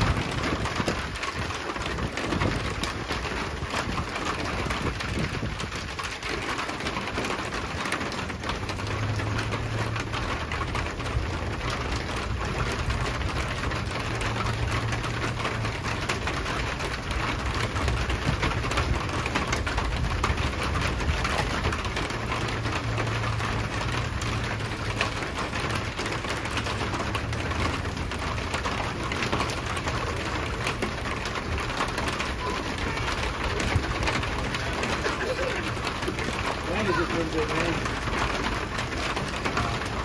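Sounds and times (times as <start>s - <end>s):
rain ticking on hard surface: 0.0s - 40.0s.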